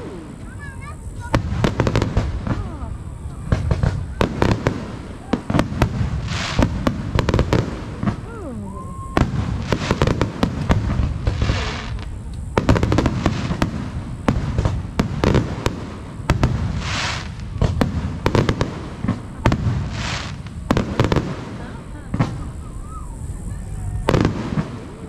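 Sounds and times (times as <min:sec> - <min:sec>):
fireworks bangs and crackles: 0:00.0 - 0:25.0
fireworks hissing: 0:00.0 - 0:25.0.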